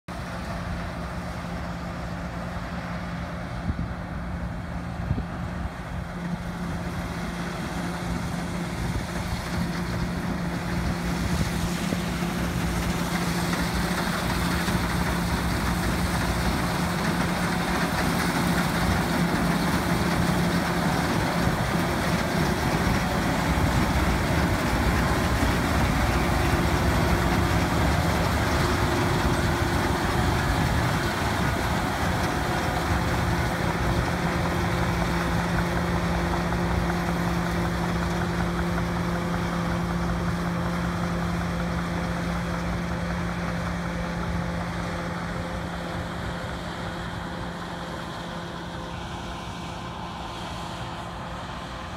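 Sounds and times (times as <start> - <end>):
combine harvester running: 0.1 - 51.9.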